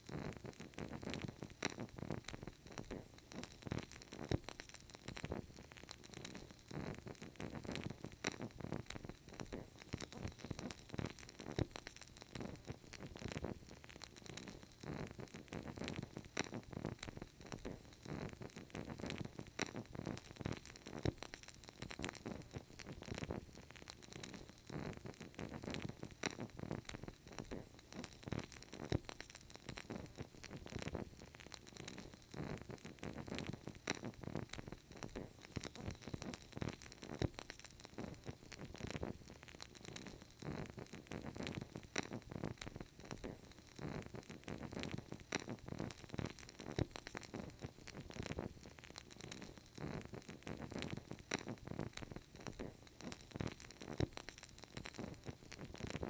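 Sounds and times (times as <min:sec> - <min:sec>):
candle crackling: 0:00.0 - 0:56.0.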